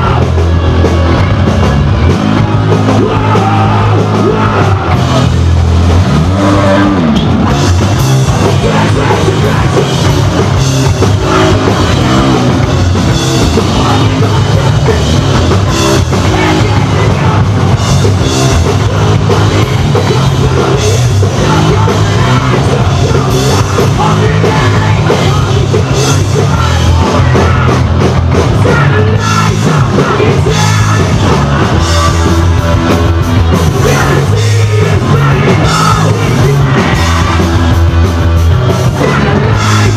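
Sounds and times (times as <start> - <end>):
distorted electric guitar: 0.0 - 39.9
drum kit: 0.0 - 39.9
electric bass: 0.0 - 39.9.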